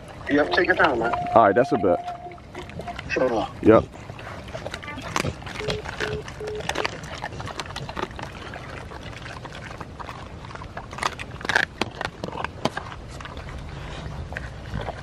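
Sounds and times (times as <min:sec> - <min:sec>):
dogs eating from tray: 0:00.0 - 0:15.0.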